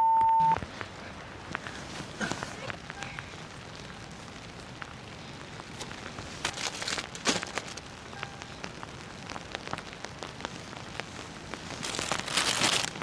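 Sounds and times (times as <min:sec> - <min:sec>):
rain pattering: 0:00.1 - 0:13.0.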